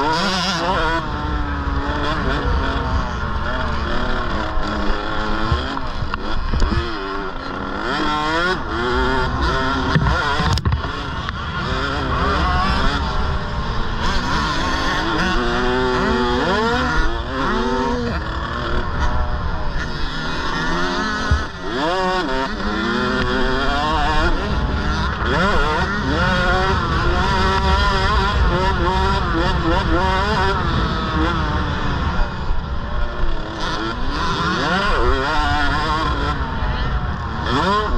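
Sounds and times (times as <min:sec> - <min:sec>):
minibike engines revving: 0:00.0 - 0:37.9.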